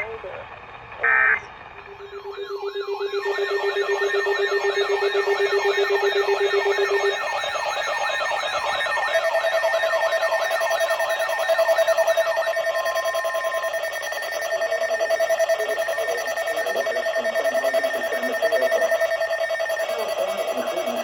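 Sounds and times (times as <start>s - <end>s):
steady high tone: 1.0s - 21.0s
sweeping electronic siren tone: 1.0s - 21.0s.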